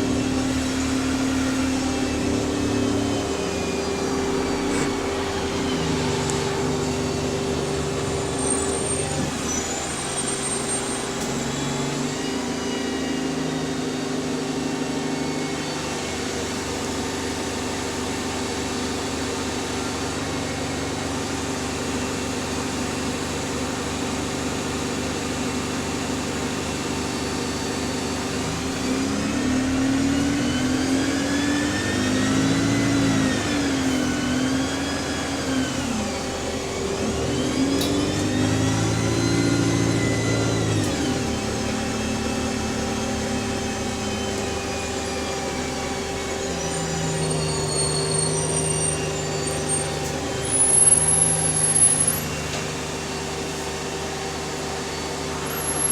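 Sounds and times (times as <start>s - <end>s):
bus engine and gearbox whine: 0.0s - 55.9s.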